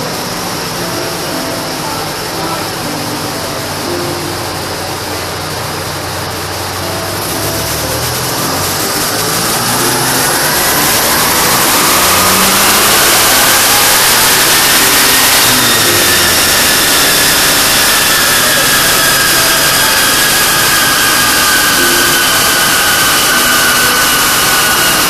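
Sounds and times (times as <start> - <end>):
car engine revving under load: 0.0 - 25.0
rising whine: 0.0 - 25.0.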